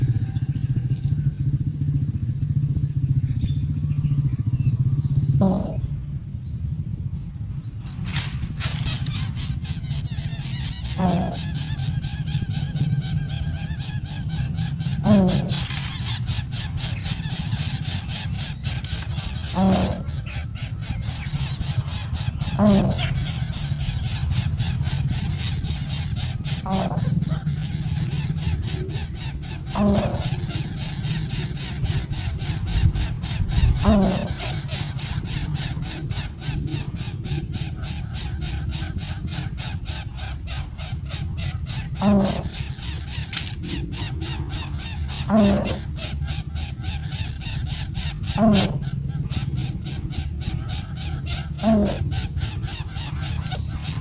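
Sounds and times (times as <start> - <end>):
low rumble: 0.0 - 54.0
small engine pulsing: 0.0 - 54.0
baby bird distress call: 5.4 - 5.9, 7.9 - 54.0.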